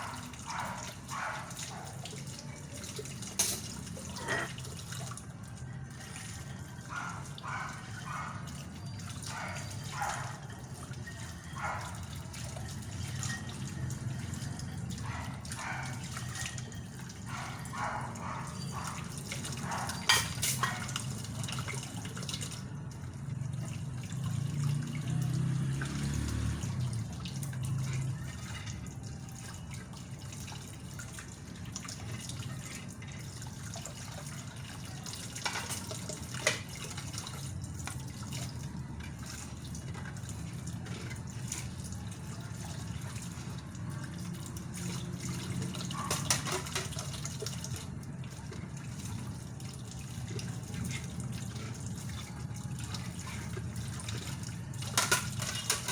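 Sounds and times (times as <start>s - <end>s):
tap water splashing in sink: 0.0s - 5.3s, 15.0s - 55.9s.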